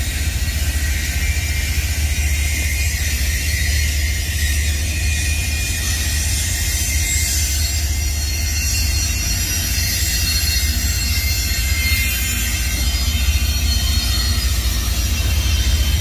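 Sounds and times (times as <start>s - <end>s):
freight train rumbling past: 0.0s - 16.0s
wheels hissing and squealing on rails: 0.0s - 16.0s.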